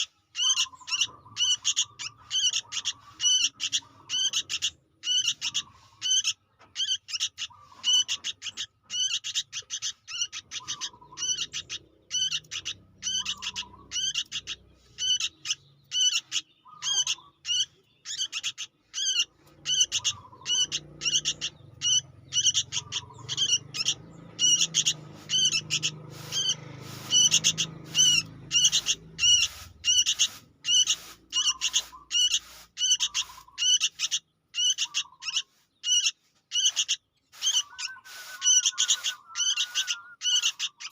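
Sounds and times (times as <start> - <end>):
young bird begging calls: 0.0 - 40.9.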